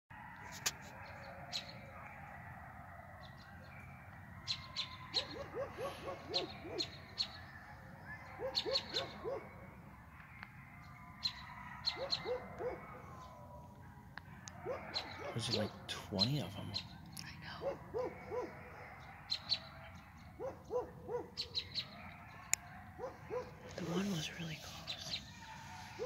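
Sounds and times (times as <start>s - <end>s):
coyotes howling and yipping: 0.1s - 26.0s.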